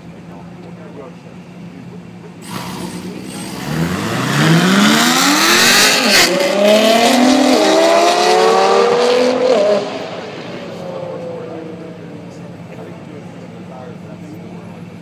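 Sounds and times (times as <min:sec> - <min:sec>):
car engines at full throttle: 0:00.0 - 0:15.0.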